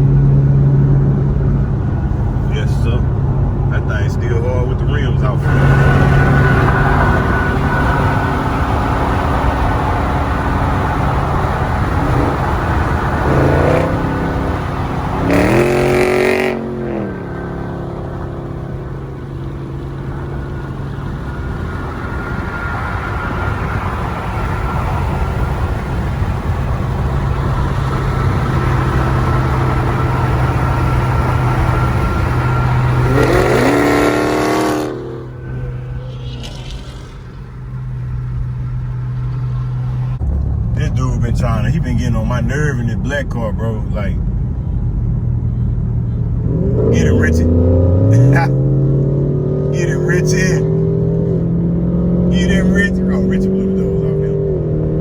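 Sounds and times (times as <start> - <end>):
car engine revving up hard: 0.0 - 44.2, 46.4 - 55.0
road noise: 0.0 - 55.0.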